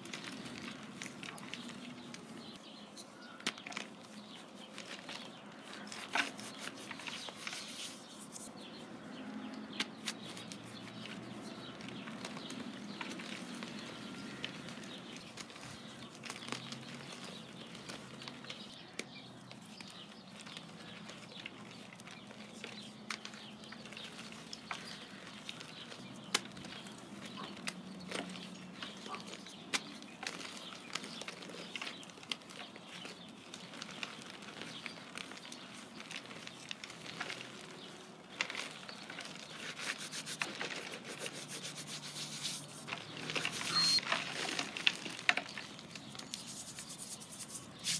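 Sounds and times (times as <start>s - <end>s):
hands crushing powder lumps: 0.0s - 8.9s, 9.7s - 47.9s
powder sifting through fingers: 0.0s - 9.1s, 9.7s - 18.8s, 19.4s - 47.9s.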